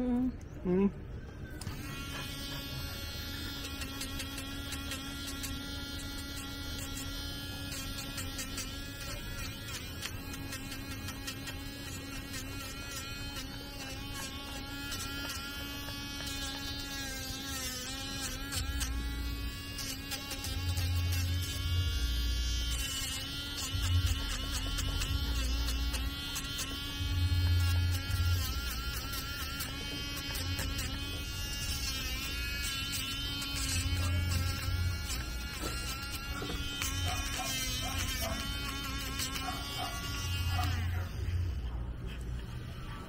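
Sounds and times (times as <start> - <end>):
electric nail grinder buzzing: 1.6 - 41.7.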